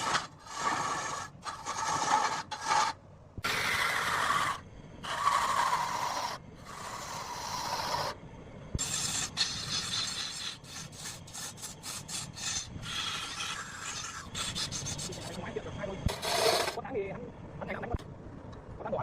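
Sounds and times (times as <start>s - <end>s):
lathe tool rasping on wood: 0.0s - 8.2s, 8.8s - 15.4s, 16.1s - 16.8s.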